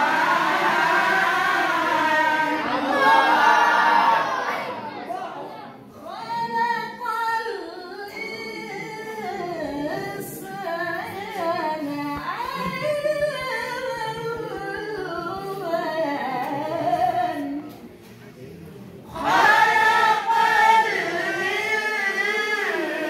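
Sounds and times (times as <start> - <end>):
person reciting melodically: 0.0 - 4.5, 6.0 - 17.8, 19.1 - 23.0.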